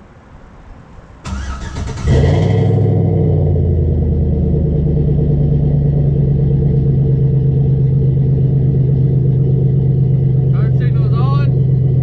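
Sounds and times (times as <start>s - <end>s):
pickup truck engine idling: 1.3s - 12.0s.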